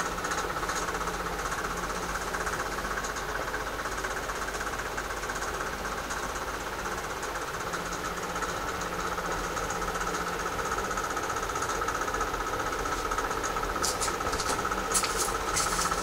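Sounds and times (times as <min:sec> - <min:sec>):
small machine rattling and humming: 0:00.0 - 0:16.0.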